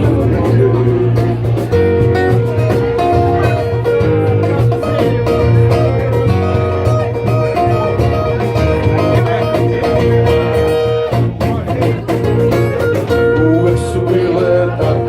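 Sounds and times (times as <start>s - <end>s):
guitar band music: 0.0s - 15.0s.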